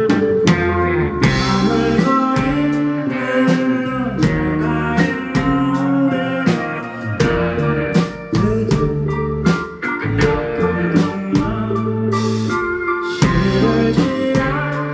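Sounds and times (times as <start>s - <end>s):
rock band playing: 0.0s - 14.9s
vocals: 0.0s - 14.9s.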